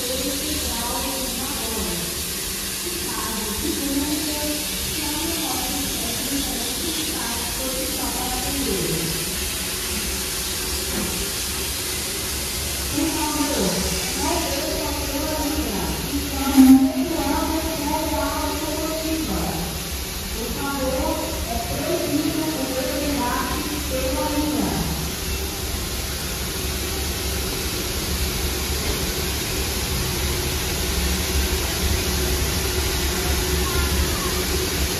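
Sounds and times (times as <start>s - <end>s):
steam hissing: 0.0s - 34.9s.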